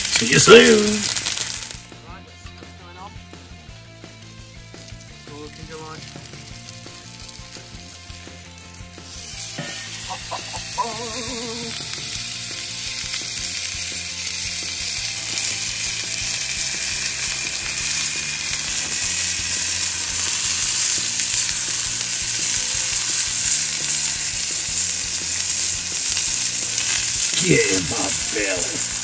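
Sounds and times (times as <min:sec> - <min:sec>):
food sizzling on a griddle: 0:00.0 - 0:02.2, 0:02.9 - 0:29.0.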